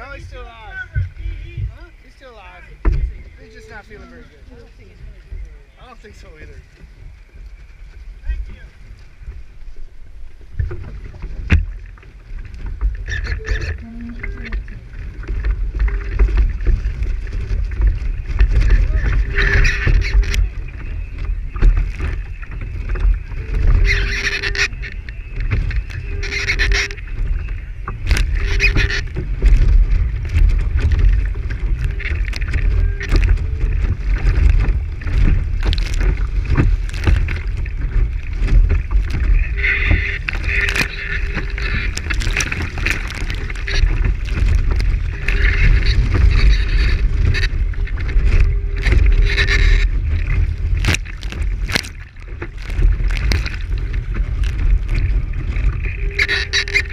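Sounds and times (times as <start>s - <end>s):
water rushing along a hull: 0.0s - 56.9s
wind rumbling on microphone: 0.0s - 56.9s.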